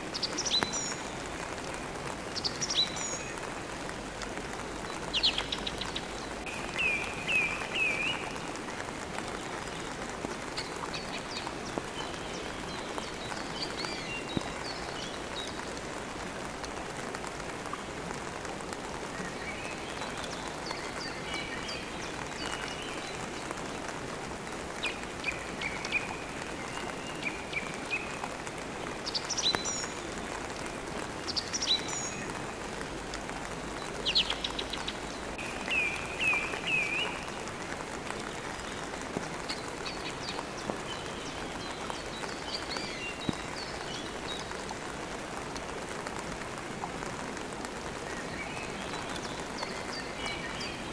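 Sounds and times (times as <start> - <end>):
songbirds chirping: 0.0 - 50.9
steady rain: 0.0 - 50.9.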